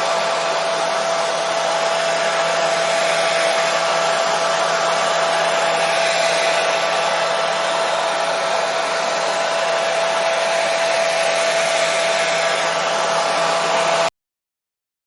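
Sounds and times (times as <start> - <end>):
hair dryer running: 0.0 - 14.2.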